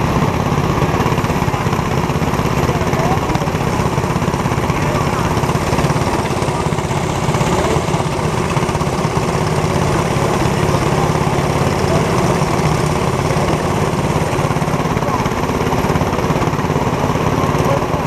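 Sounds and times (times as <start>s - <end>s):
go-kart engine idling: 0.0s - 18.0s.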